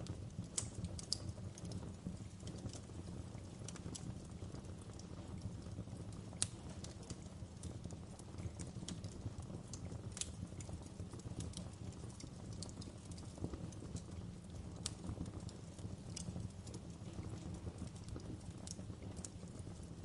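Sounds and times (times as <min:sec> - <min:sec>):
low rumble of fire: 0:00.0 - 0:20.0
wood fire crackling and popping: 0:00.0 - 0:20.0.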